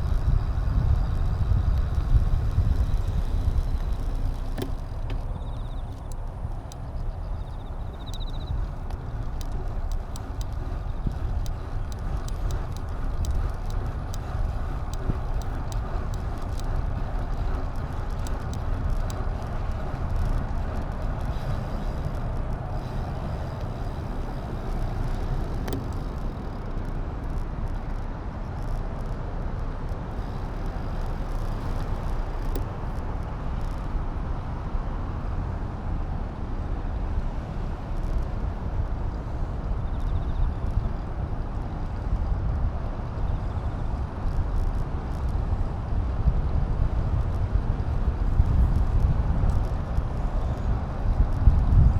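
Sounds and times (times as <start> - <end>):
light clicks: 0.0 - 35.7, 37.0 - 51.9
rolling road noise: 0.0 - 51.9
wind on microphone: 0.0 - 51.9.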